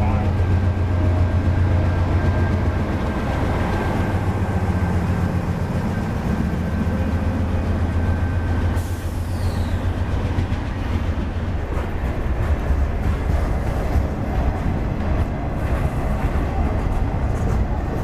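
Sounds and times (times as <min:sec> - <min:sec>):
diesel locomotive engines droning: 0:00.0 - 0:18.0.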